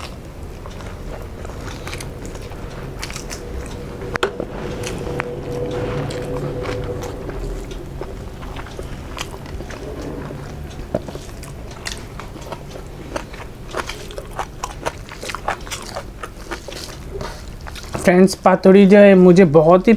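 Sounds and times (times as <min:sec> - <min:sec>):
chewing food: 0:00.0 - 0:18.1.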